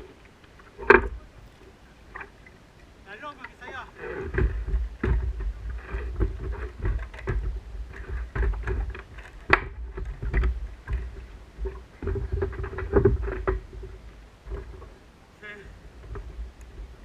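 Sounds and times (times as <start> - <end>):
water patter: 0.0 - 17.0.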